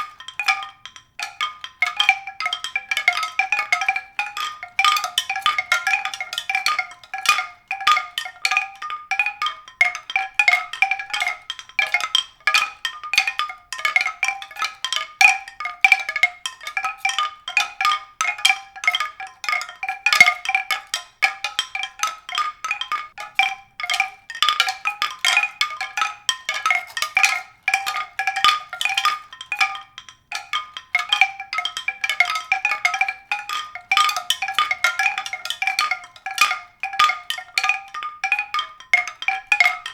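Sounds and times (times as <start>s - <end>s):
tinkling tuned percussion: 0.0s - 39.9s.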